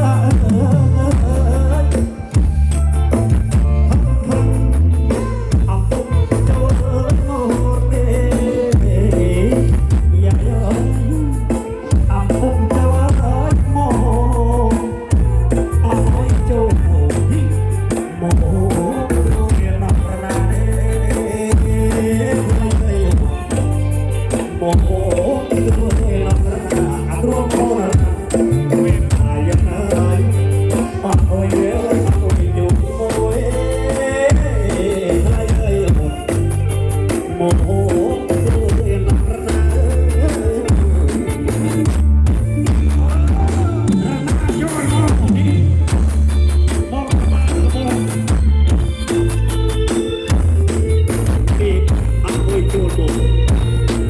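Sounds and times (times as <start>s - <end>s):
loud music with heavy bass: 0.0s - 54.0s
person singing: 0.0s - 54.0s.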